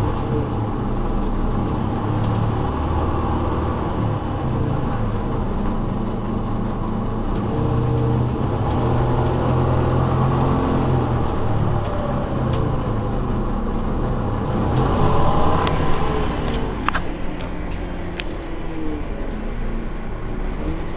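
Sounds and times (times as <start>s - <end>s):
bus engine running: 0.0s - 20.9s.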